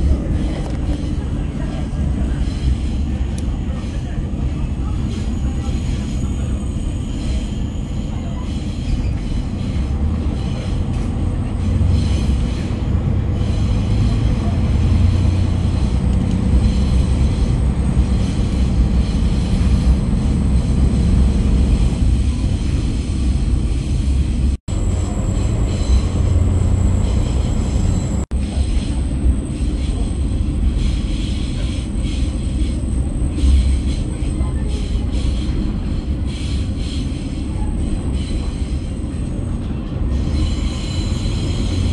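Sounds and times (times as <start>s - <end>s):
railcar engine and wheels rumbling: 0.0s - 41.9s.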